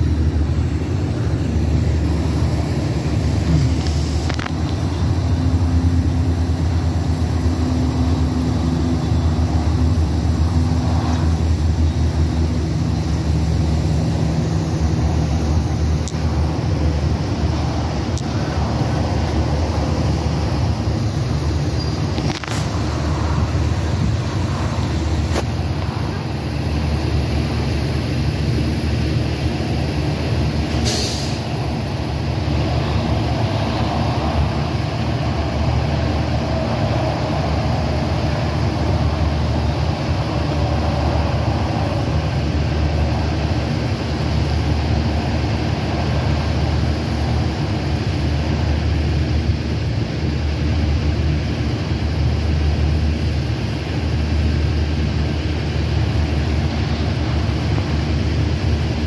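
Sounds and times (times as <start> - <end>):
low outdoor rumble: 0.0 - 59.0.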